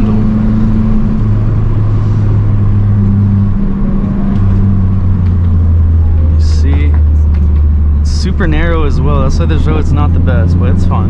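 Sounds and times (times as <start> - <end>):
car engine running while driving: 0.0 - 11.0.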